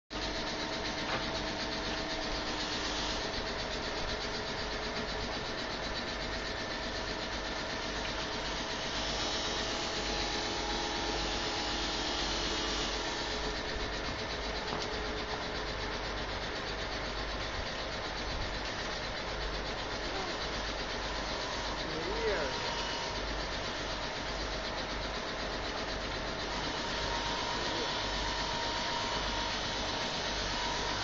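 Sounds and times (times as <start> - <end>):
screw conveyor motor humming: 0.1 - 31.0.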